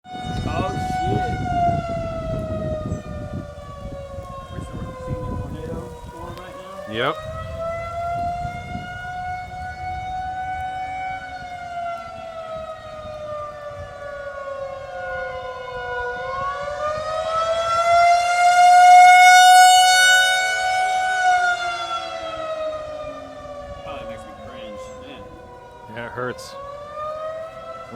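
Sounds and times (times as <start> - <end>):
warning siren wailing: 0.0 - 27.9.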